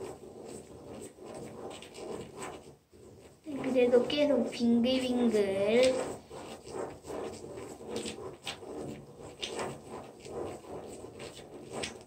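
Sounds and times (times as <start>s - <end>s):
ballpoint pen scratching on paper: 0.0s - 12.0s.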